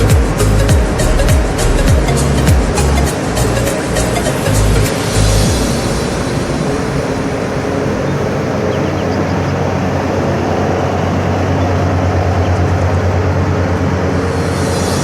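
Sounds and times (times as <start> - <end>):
ship diesel engine running: 0.0 - 15.0.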